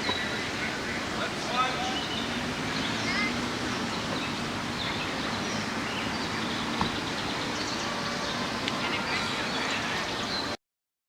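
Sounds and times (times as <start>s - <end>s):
outdoor background noise: 0.0s - 10.6s.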